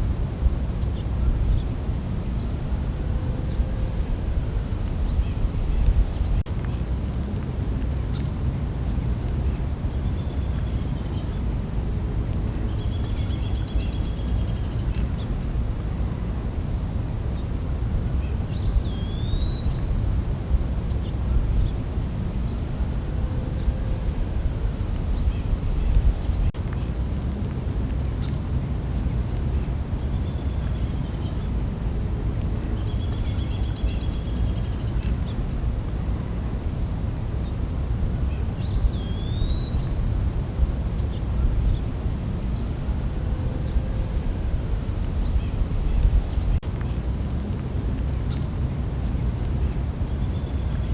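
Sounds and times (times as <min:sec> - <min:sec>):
crickets chirping: 0:00.0 - 0:50.9
high insect drone: 0:00.0 - 0:50.9
low rumbling background noise: 0:00.0 - 0:50.9.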